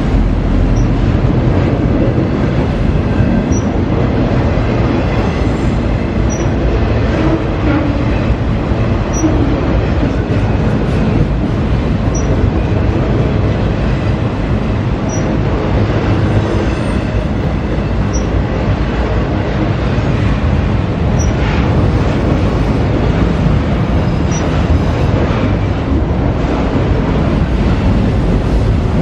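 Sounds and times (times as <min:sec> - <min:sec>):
freight train cars rolling: 0:00.0 - 0:29.0.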